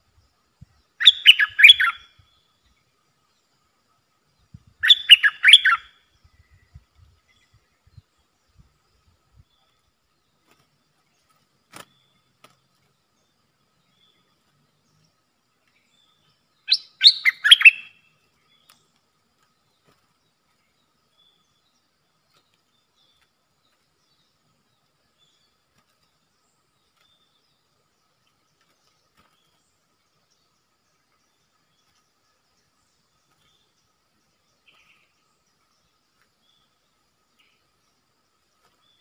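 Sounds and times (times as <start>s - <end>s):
bird chirping: 0.0s - 39.0s.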